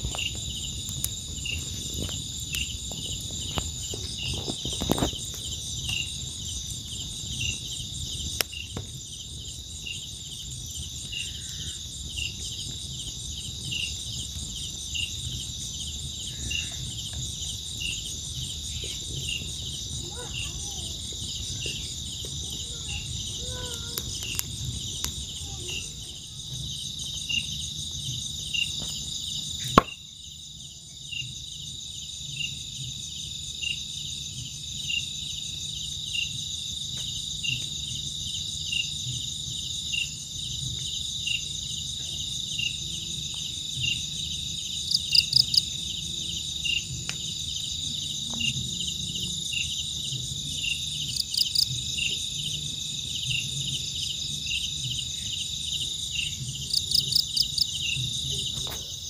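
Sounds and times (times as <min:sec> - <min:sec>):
crickets and insects trilling: 0:00.0 - 0:59.0.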